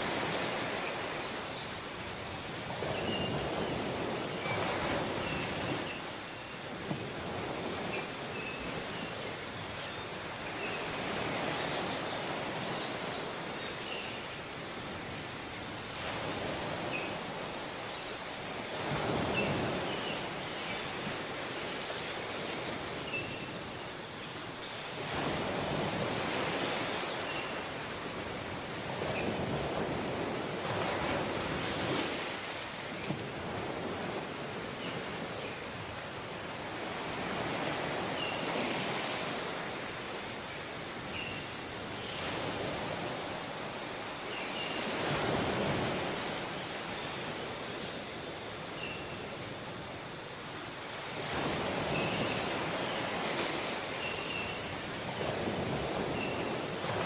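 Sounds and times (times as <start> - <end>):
waves washing onto shore: 0.0 - 57.0.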